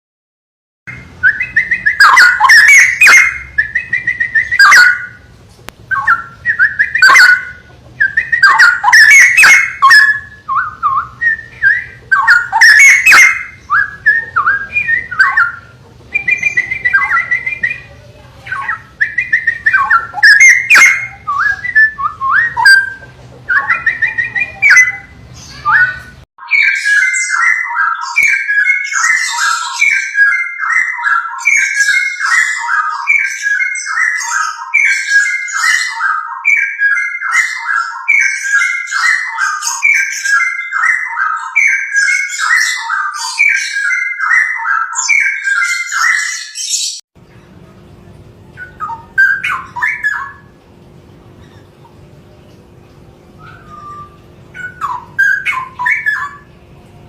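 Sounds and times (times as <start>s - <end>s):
bird singing whistled phrases: 0.9s - 5.3s, 5.9s - 47.0s, 48.6s - 50.6s, 53.3s - 56.6s.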